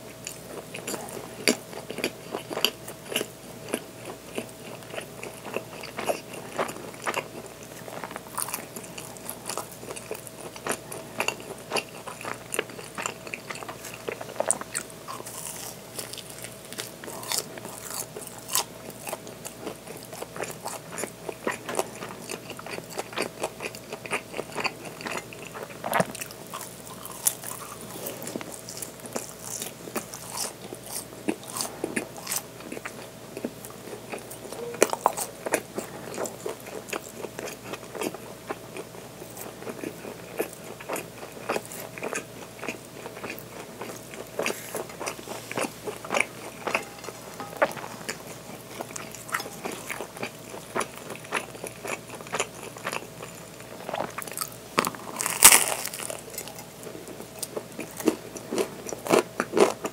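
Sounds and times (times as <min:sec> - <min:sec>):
person chewing bread: 0:00.0 - 0:59.9.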